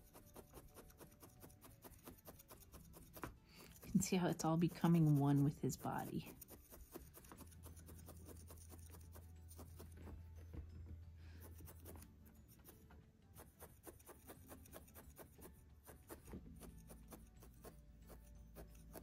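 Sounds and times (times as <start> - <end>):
felting needle stabbing wool: 0.0 - 10.1, 11.4 - 19.0.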